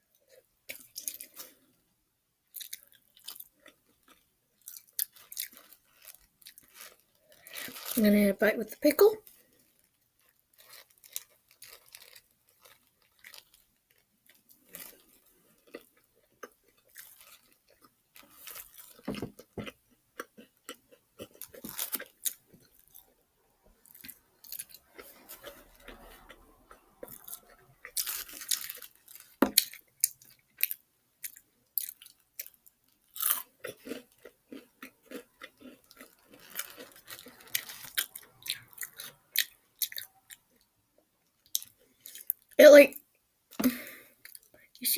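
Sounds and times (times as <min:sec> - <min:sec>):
person chewing crispy food: 0:00.1 - 0:01.8, 0:02.4 - 0:08.0, 0:09.2 - 0:42.6, 0:43.8 - 0:44.6.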